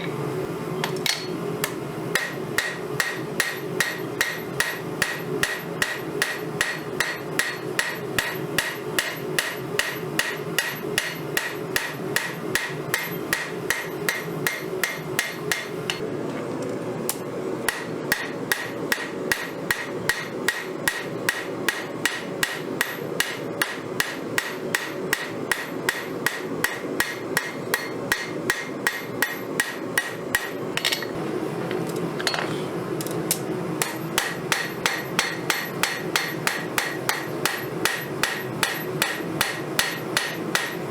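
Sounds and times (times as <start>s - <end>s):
hammer striking steel on anvil: 0.9s - 16.0s, 17.7s - 31.2s, 33.0s - 40.9s.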